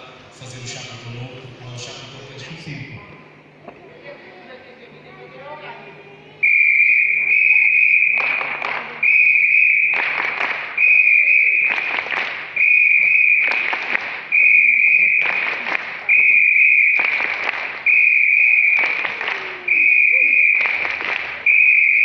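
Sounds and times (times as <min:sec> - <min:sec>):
circus audience noise: 0:00.0 - 0:22.0.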